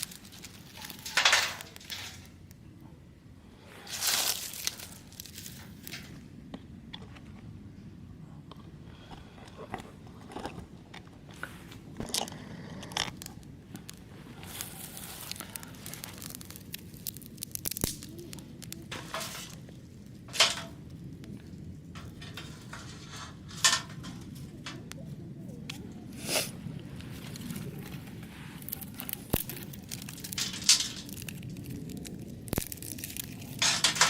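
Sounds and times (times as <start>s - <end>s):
camping gear rustling and crinkling: 0.0s - 2.6s, 3.7s - 7.6s, 9.1s - 34.0s.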